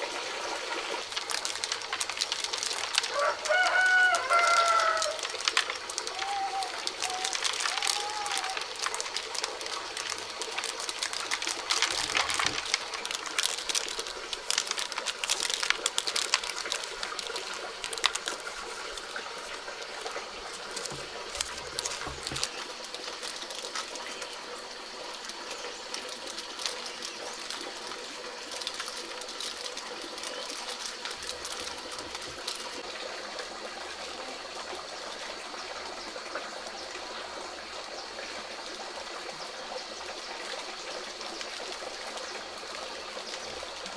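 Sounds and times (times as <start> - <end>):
corn kernels crackling into basket: 0.0 - 32.9, 40.0 - 43.9.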